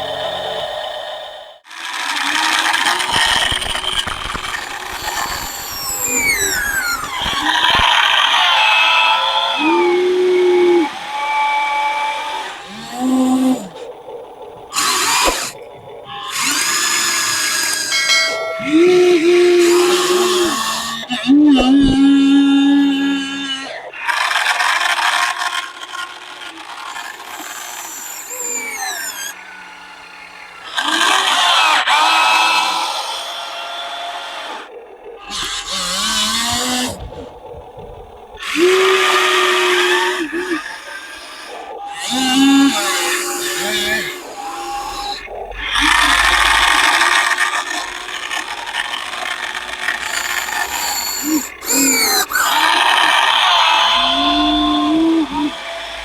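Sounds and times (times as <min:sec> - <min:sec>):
small electric motors whirring: 0:01.6 - 0:56.0.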